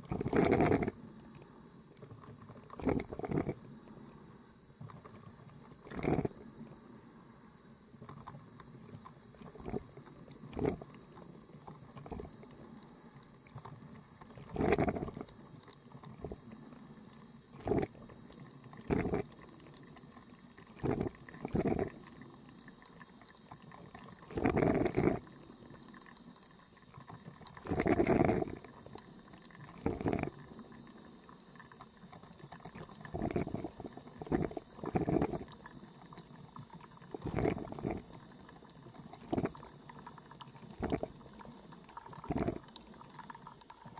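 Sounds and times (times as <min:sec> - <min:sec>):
coffee machine brewing: 0:00.0 - 0:43.9.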